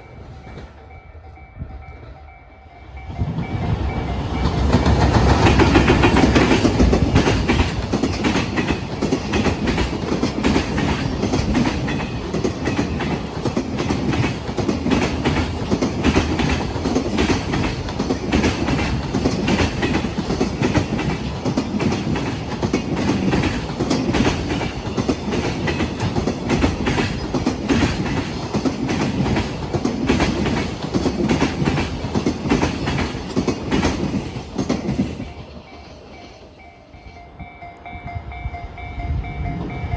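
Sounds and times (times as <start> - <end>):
train wheels clattering over joints: 4.1 - 36.9.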